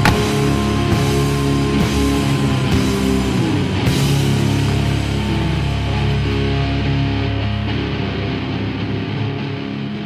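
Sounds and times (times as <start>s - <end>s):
heavy rock music with guitar: 0.0s - 10.0s.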